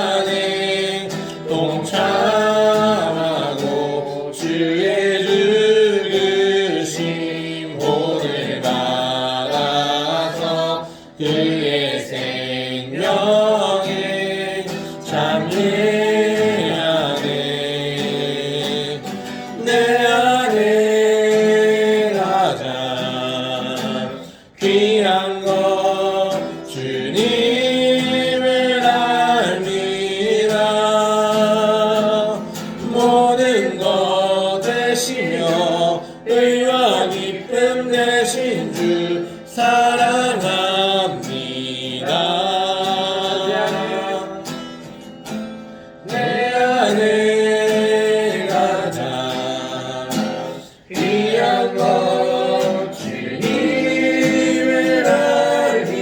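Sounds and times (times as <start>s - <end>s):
acoustic guitar: 0.0s - 56.0s
person singing worship song: 0.0s - 56.0s.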